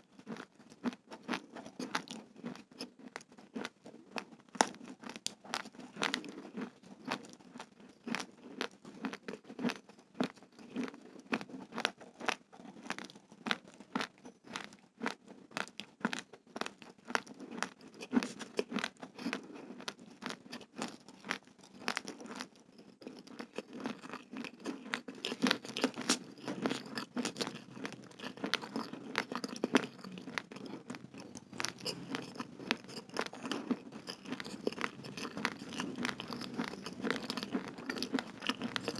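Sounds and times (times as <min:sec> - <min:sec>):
raw rice being chewed: 0:00.0 - 0:38.9.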